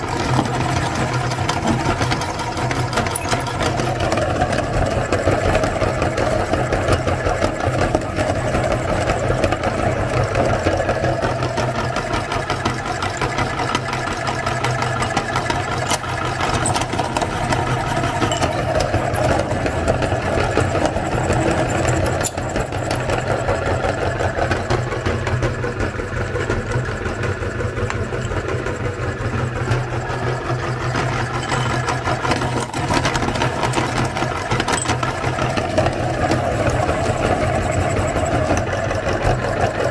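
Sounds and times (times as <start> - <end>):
electric meat grinder motor hum: 0.0 - 39.9.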